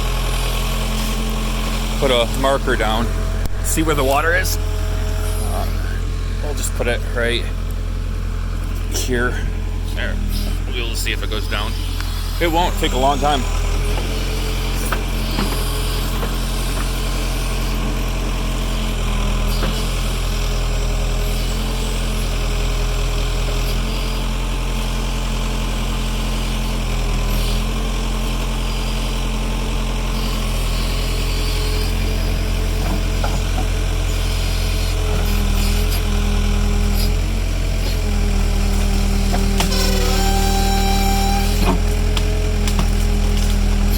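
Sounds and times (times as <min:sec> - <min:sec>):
backhoe engine running: 0:00.0 - 0:43.9.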